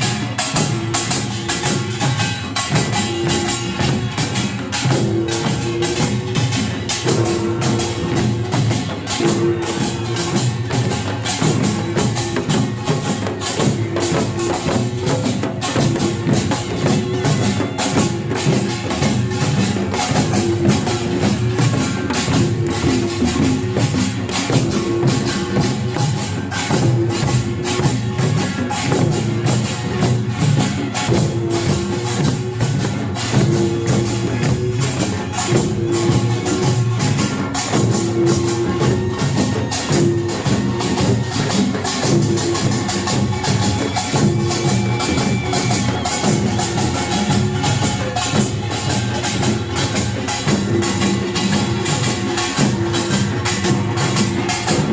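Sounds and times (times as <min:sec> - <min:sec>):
drums playing: 0:00.0 - 0:54.9
gong: 0:00.0 - 0:54.9
small gongs clanging: 0:00.0 - 0:54.9.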